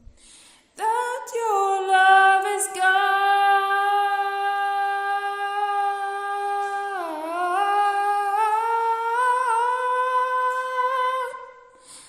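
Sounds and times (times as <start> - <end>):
woman singing unaccompanied: 0.8 - 11.7.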